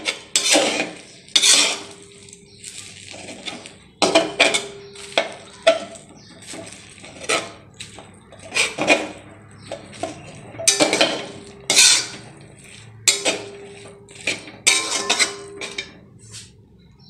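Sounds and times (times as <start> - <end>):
utensil scraping metal wok: 0.0 - 16.6.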